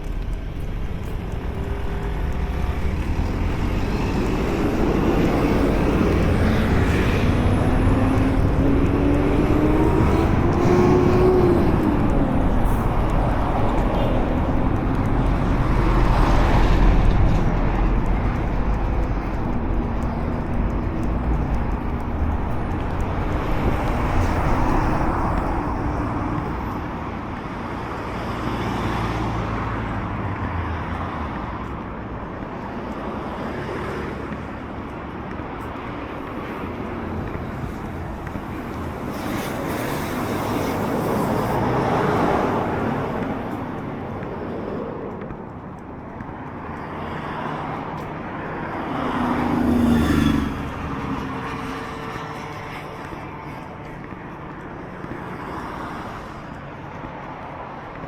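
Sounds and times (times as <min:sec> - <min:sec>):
vehicles passing on street: 0:00.0 - 0:58.0.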